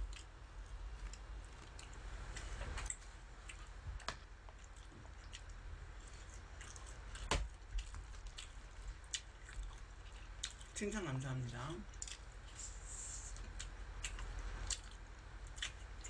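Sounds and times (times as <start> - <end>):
chewing: 0.1 - 10.8, 11.9 - 12.6, 13.3 - 16.0.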